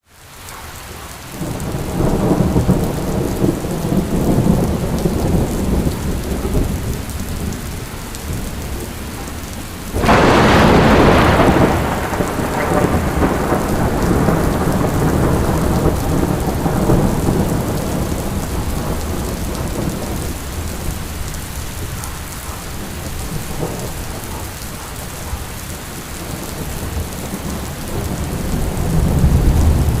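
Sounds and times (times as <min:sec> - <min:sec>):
heavy rain pouring: 0:00.0 - 0:30.0
loud thunderclap rumbling: 0:01.4 - 0:30.0.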